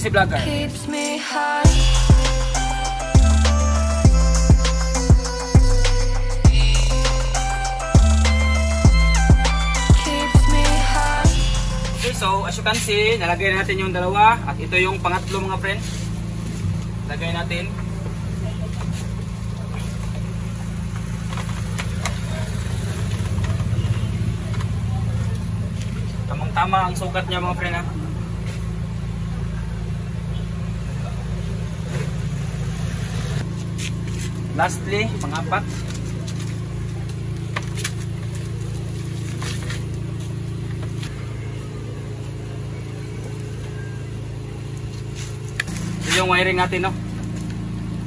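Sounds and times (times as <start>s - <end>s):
engine idling: 1.6s - 48.0s.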